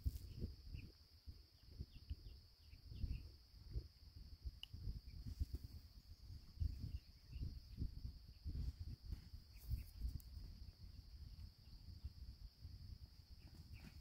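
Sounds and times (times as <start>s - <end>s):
insects chirring: 0.0s - 14.0s
wind rumble on microphone: 0.0s - 14.0s.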